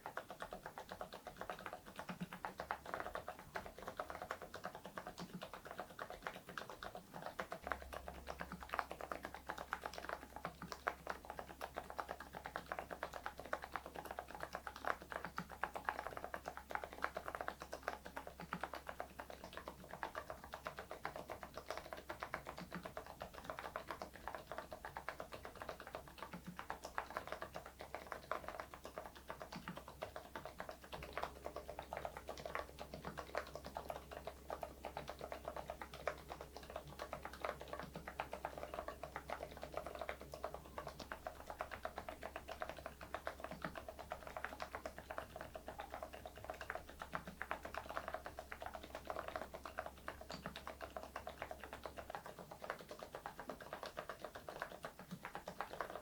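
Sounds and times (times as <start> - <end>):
faint low hum: 0.0 - 56.0
fast typing on mechanical keyboard: 0.0 - 56.0.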